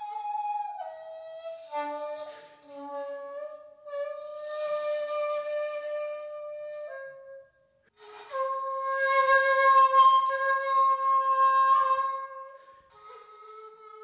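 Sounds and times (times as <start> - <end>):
breathy bamboo flute notes: 0.0 - 14.0.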